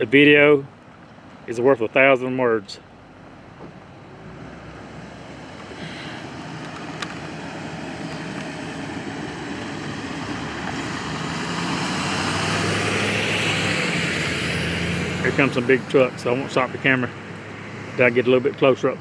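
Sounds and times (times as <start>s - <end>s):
approaching vehicle: 0.0s - 19.0s.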